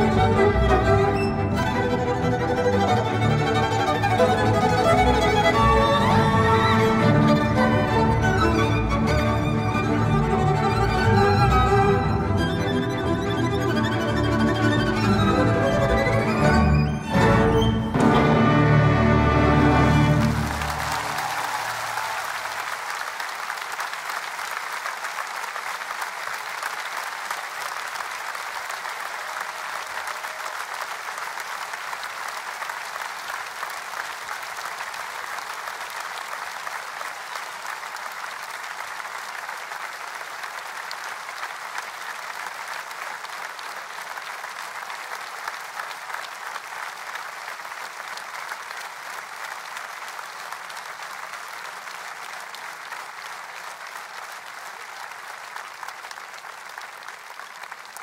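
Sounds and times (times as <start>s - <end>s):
audience applauding: 0.0s - 58.0s.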